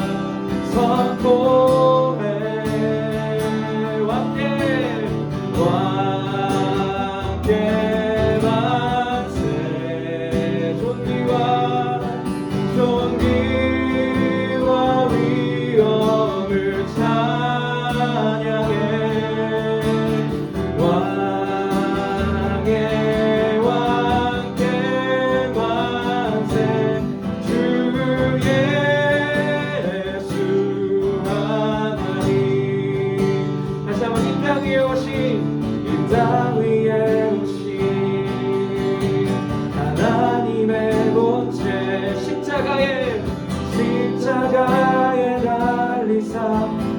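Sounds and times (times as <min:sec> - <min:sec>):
strummed acoustic guitar: 0:00.0 - 0:46.9
voices singing slow melody: 0:00.0 - 0:46.9.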